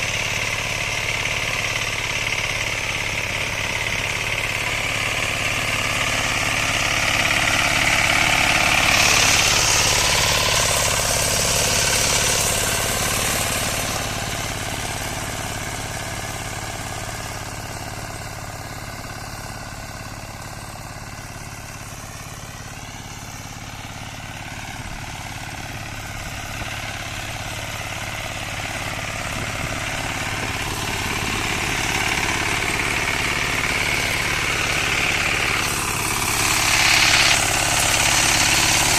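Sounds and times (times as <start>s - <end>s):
rotary tiller working soil: 0.0s - 38.9s
walk-behind tractor engine: 0.0s - 38.9s.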